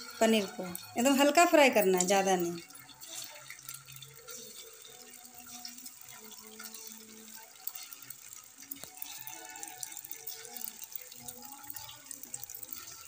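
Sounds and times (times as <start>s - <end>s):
cheese frying in hot oil: 0.0s - 13.0s
pieces dropped into oil: 0.0s - 13.0s.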